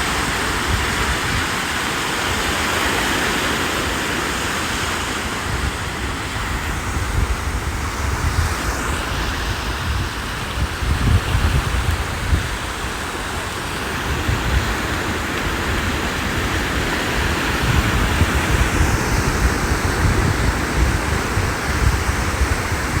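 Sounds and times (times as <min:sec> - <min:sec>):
ocean waves breaking: 0:00.0 - 0:23.0
wind buffeting microphone: 0:00.0 - 0:23.0.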